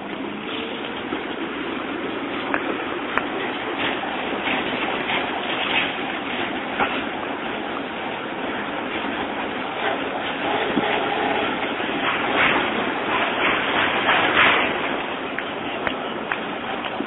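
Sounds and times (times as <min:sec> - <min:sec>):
tram wheels rolling on rails: 0:00.0 - 0:17.0.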